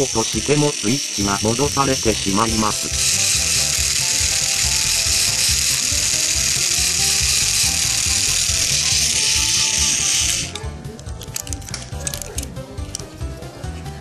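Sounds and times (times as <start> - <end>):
toy train motor whirring: 0.0 - 13.2
background music: 0.0 - 14.0.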